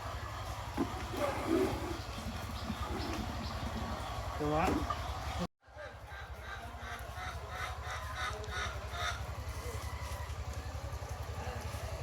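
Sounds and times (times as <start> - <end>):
chickens clucking: 0.0 - 10.2.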